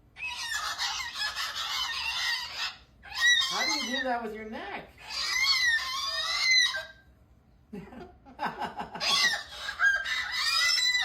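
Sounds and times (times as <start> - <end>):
cockatoo squawking: 0.1 - 7.0, 8.9 - 11.0.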